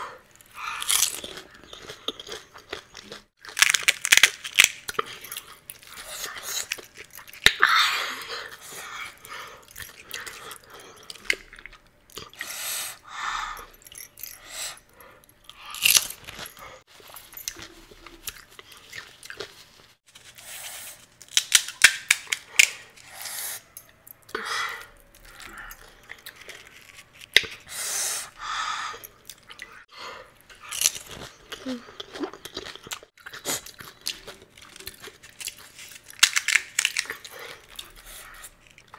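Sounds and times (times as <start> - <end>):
crisp shells crunching and chewed: 0.3 - 13.0, 13.6 - 20.0, 21.1 - 27.8, 29.0 - 29.8, 30.4 - 38.9.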